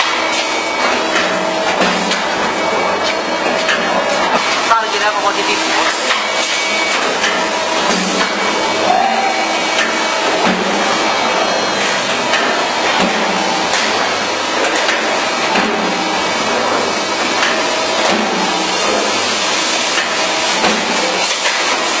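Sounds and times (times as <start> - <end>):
machine clatter and hiss: 0.0 - 4.9, 5.8 - 8.8, 9.6 - 22.0.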